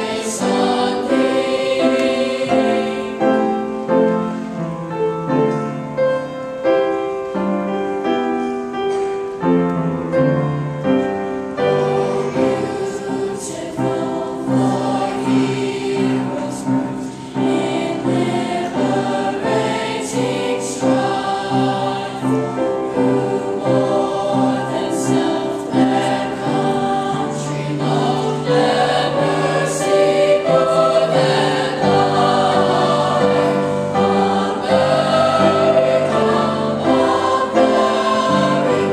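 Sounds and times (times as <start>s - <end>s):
mixed choir singing: 0.0s - 4.6s, 10.8s - 38.9s.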